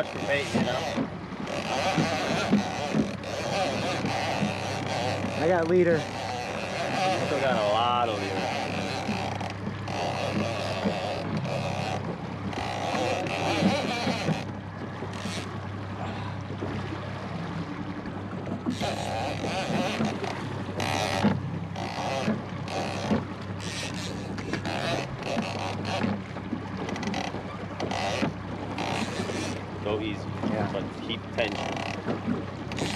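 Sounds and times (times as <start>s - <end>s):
outboard motor running: 0.0s - 32.9s.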